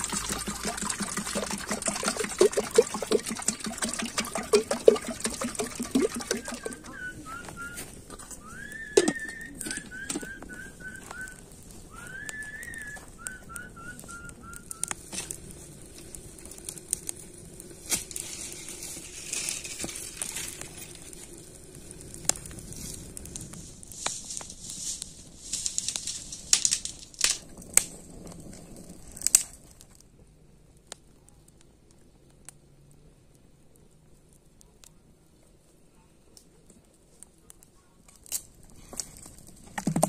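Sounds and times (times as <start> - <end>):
campfire crackling: 0.0 - 40.0.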